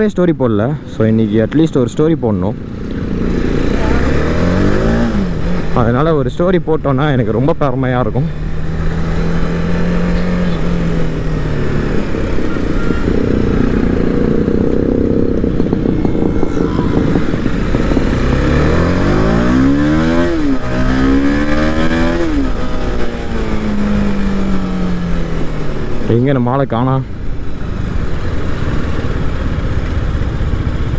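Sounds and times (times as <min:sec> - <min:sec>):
motorcycle engine accelerating: 0:00.8 - 0:30.9.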